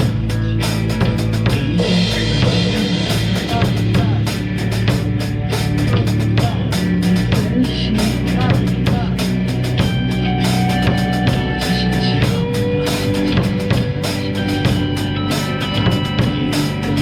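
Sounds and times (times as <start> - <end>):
drum kit playing: 0.0 - 17.0
rock song playback with guitar: 0.0 - 17.0.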